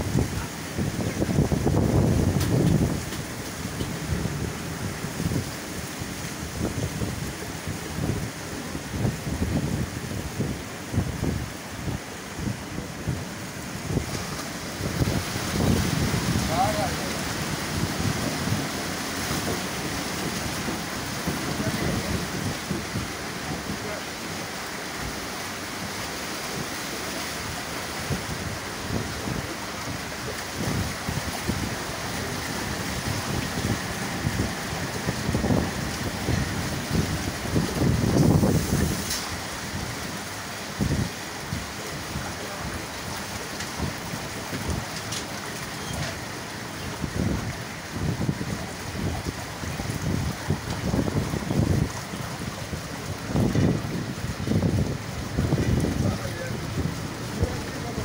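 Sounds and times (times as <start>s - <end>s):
floodwater rushing and splashing: 0.0s - 58.0s
wind buffeting microphone: 0.0s - 58.0s.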